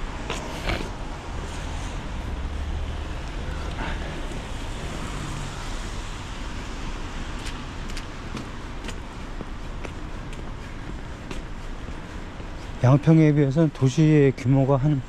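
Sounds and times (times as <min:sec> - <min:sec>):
low rumble of passing cars: 0:00.0 - 0:15.0.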